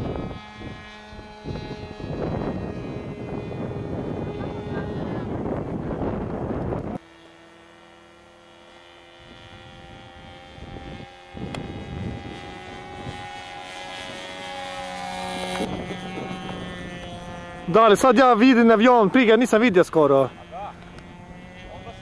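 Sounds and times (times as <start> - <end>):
model plane engine high pitch: 0.0 - 22.0.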